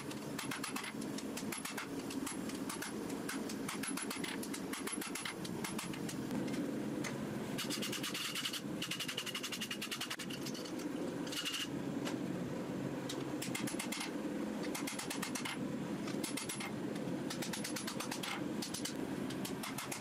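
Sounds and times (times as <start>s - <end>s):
mechanical hum of forge equipment: 0.0s - 20.0s.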